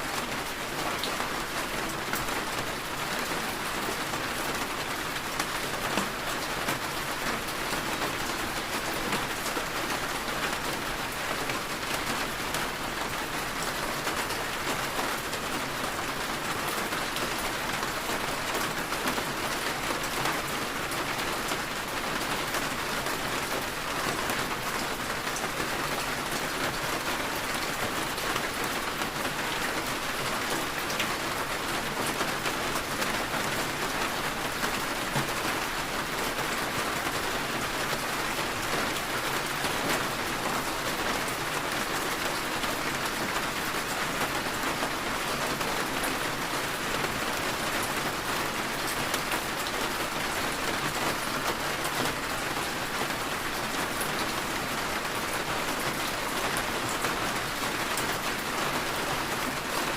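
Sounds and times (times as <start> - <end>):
steady rain on a surface: 0.0 - 59.9.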